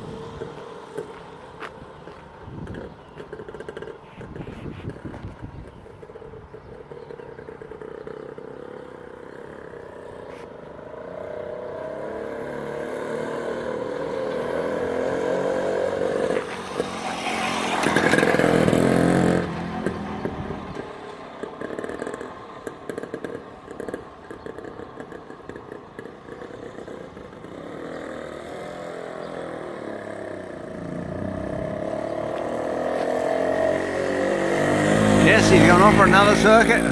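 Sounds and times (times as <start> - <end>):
motorcycle passing by: 0.0 - 36.9.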